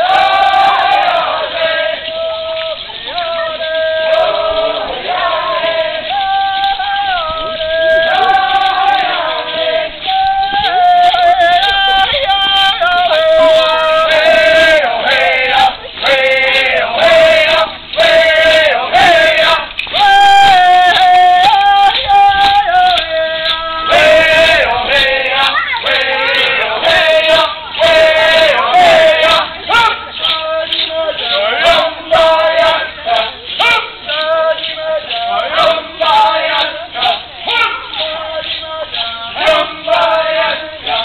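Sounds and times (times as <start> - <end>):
group of men and women singing: 0.0 - 41.0.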